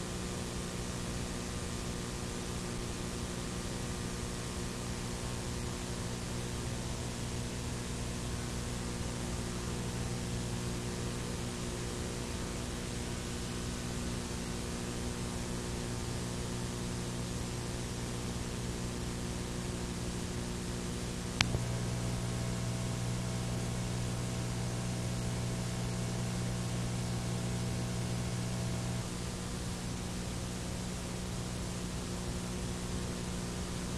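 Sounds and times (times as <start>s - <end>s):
electrical hum: 0.0s - 33.9s
videotape hiss: 0.0s - 33.9s.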